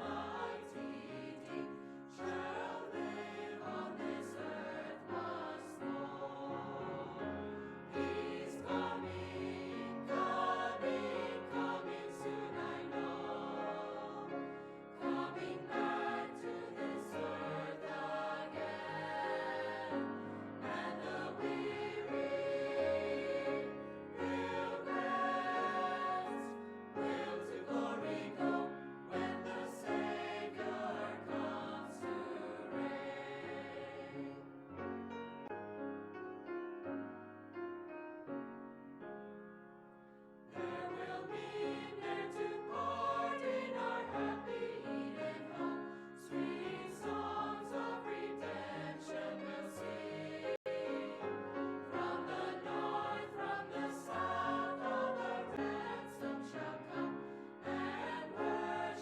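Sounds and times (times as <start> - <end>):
choir singing harmonies: 0.0 - 35.1, 40.5 - 59.0.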